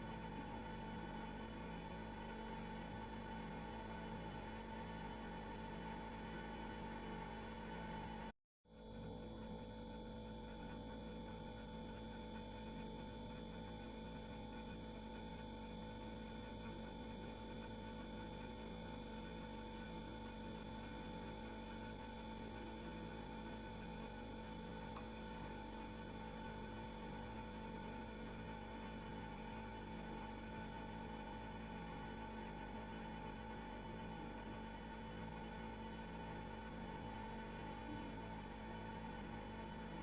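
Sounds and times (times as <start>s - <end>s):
refrigerator humming: 0.0s - 8.3s, 9.0s - 40.0s.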